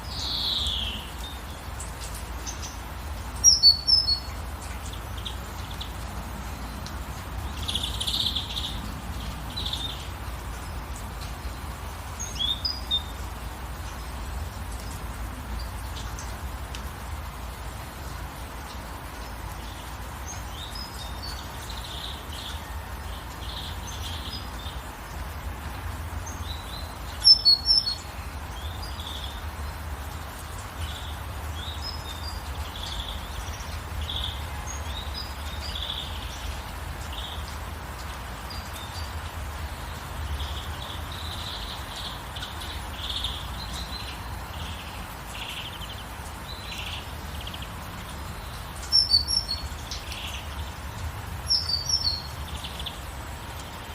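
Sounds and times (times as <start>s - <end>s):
birds chirping: 0.0s - 53.9s
rain hissing: 0.0s - 53.9s.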